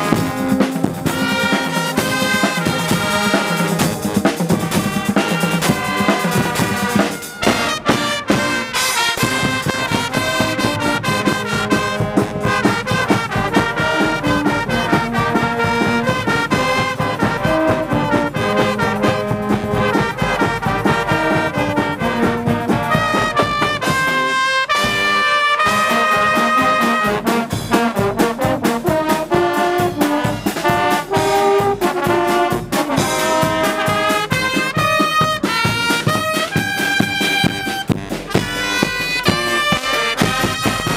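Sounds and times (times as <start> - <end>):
drum kit and bass drum: 0.0 - 25.1, 25.7 - 40.9
brass band playing loudly: 0.0 - 40.9.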